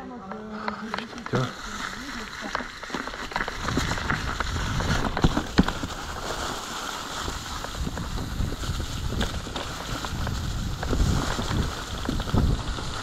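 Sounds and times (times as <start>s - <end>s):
bike tyres rumbling on dirt: 0.8s - 13.0s.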